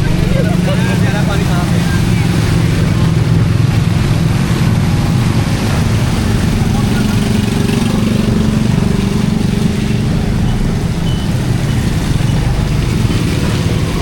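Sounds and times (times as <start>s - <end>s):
street noise: 0.0s - 14.0s
vehicle engine pulsing rumble: 0.0s - 14.0s.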